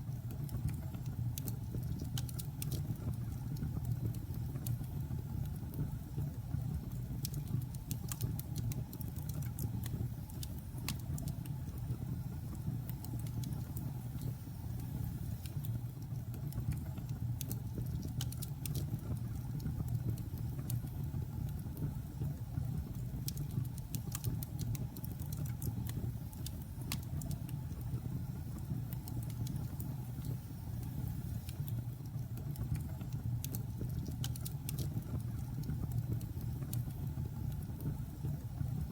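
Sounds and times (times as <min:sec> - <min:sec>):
wood crackling and popping: 0:00.0 - 0:38.9.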